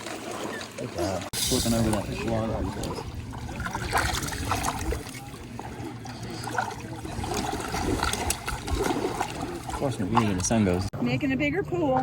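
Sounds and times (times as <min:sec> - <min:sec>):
hand splashing water: 0:00.0 - 0:10.9
shallow water trickling: 0:00.0 - 0:10.9.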